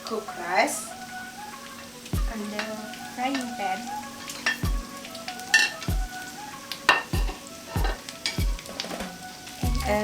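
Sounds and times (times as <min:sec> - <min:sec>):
food frying in a pan: 0:00.0 - 0:10.0.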